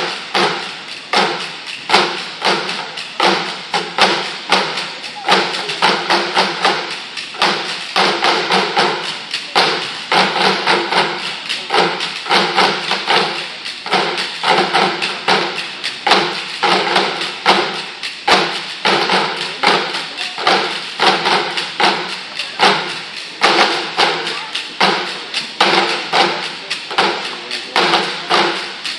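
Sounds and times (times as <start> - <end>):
drumming on plastic buckets: 0.0 - 28.9
struck plastic pipes: 0.0 - 28.9.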